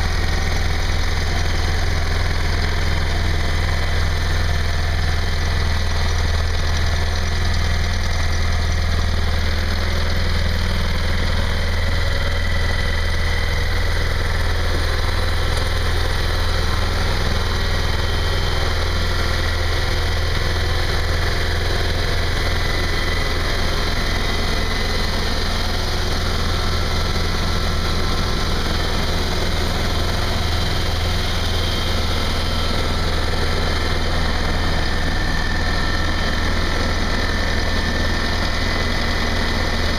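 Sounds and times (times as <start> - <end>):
engine idling with deep hum: 0.0 - 39.9.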